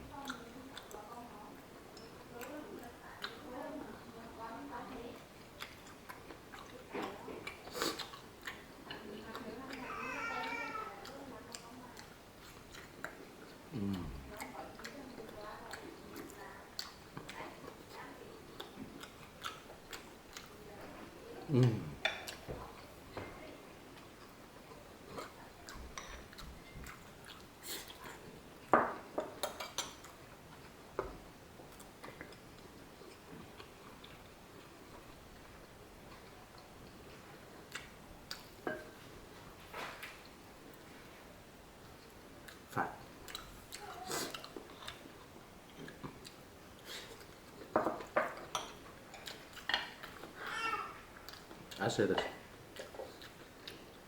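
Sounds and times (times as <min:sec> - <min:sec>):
chewing: 0:00.1 - 0:54.0.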